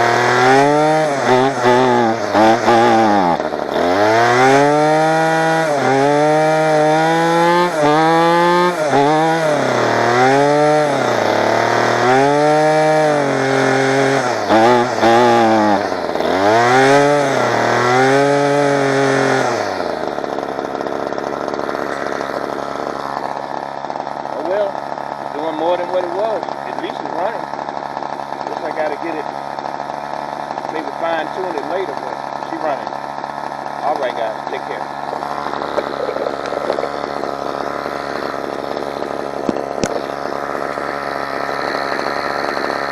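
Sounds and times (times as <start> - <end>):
string trimmer engine revving: 0.0 - 42.9.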